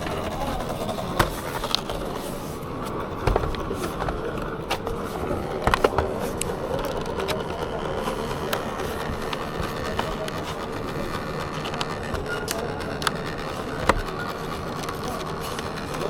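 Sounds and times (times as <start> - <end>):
laptop fan rough drone: 0.0 - 16.0.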